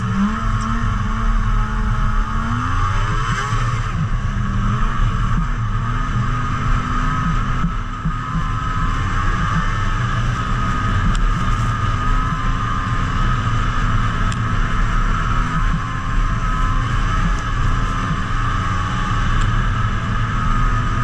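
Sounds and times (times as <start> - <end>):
snowmobile engine running: 0.0 - 21.0.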